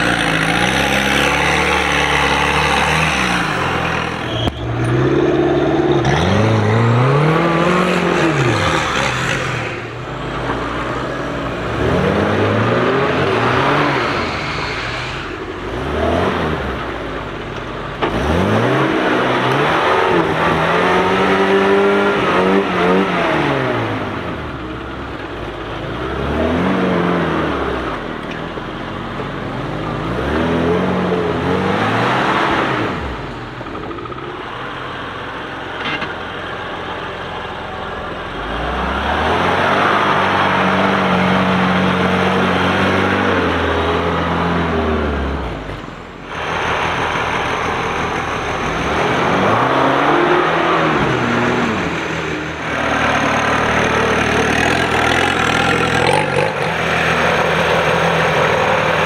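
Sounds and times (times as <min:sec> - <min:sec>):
off-road engines revving hard: 0:00.0 - 0:28.6, 0:29.4 - 0:59.0.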